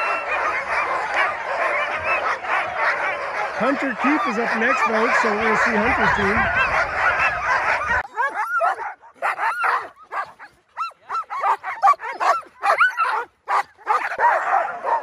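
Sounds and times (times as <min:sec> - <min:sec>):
dogs yipping and barking: 0:00.0 - 0:15.0.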